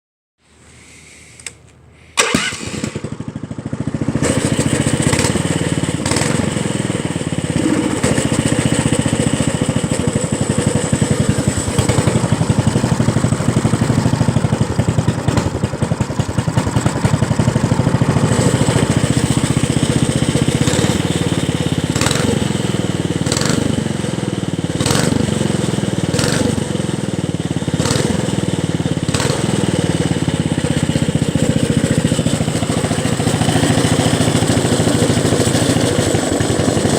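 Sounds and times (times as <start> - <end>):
small gasoline engine revving: 2.1 - 36.9.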